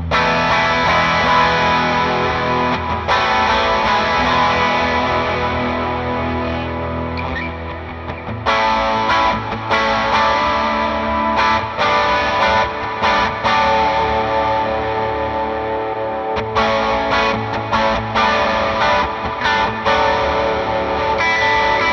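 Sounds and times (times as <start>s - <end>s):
electric guitar strummed chords: 0.0s - 21.9s.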